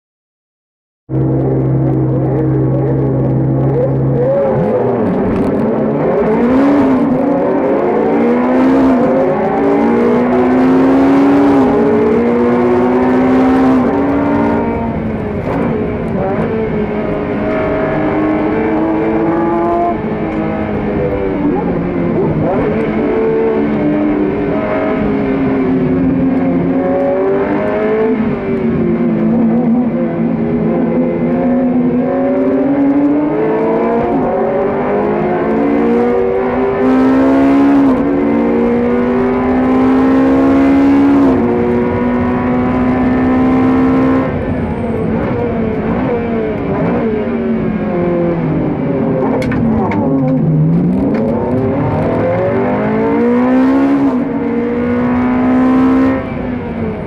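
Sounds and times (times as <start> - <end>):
race car engine revving: 1.1 - 57.0.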